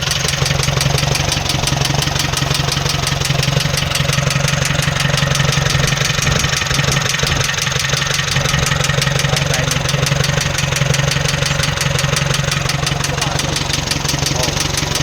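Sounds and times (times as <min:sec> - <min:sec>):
diesel engine idling with knock: 0:00.0 - 0:15.0.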